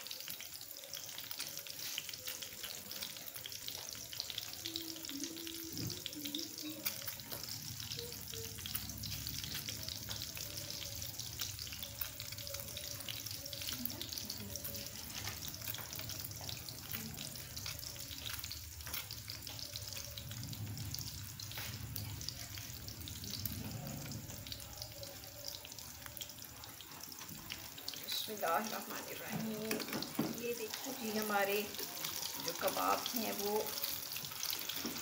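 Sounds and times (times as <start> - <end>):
cutlets sizzling in hot oil: 0.0 - 35.0.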